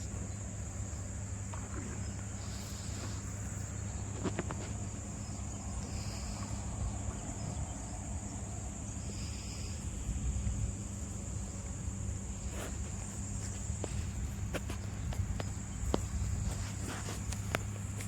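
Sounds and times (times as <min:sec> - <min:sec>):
high-pitched insect chorus: 0:00.0 - 0:18.0
low steady hum: 0:00.0 - 0:18.0.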